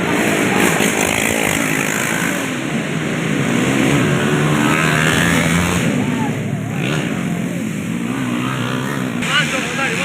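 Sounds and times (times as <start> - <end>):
racing motorcycle engine revving: 0.0 - 10.0.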